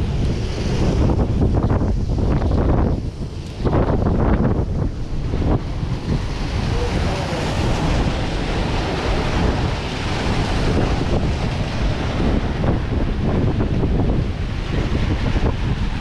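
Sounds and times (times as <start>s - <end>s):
ocean surf rushing: 0.0s - 16.0s
wind buffeting microphone: 0.0s - 16.0s.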